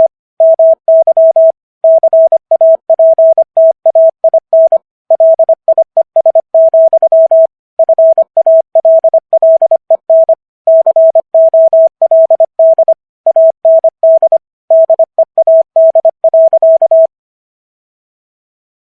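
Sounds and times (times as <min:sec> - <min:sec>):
morse code tone: 0:00.0 - 0:17.1.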